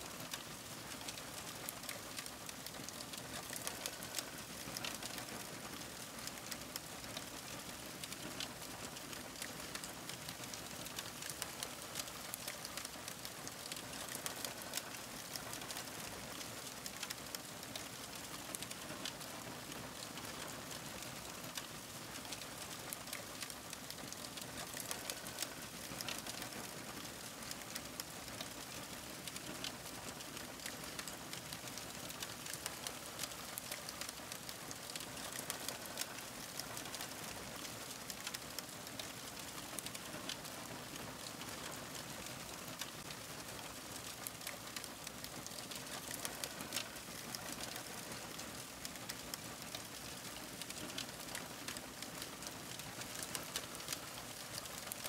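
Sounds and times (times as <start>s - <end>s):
campfire crackling: 0.3s - 6.8s, 8.0s - 20.3s, 21.2s - 55.0s
fire popping and snapping: 0.3s - 20.4s, 21.2s - 41.8s, 42.4s - 55.0s.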